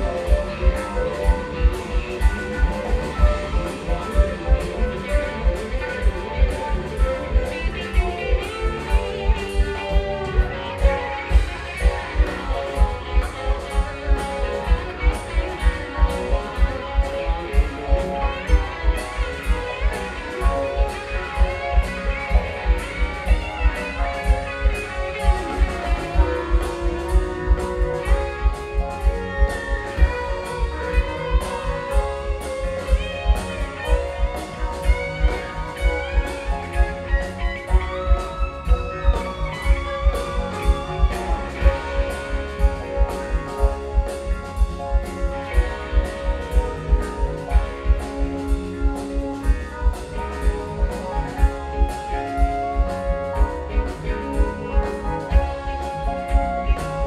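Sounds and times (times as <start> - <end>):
rock band playing live: 0.0 - 57.0
violin: 0.0 - 57.0.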